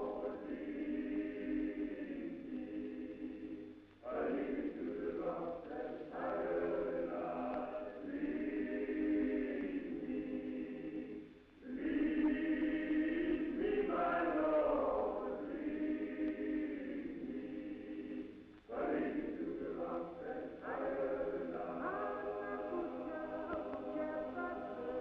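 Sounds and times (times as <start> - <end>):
male choir singing: 0.0 - 25.0.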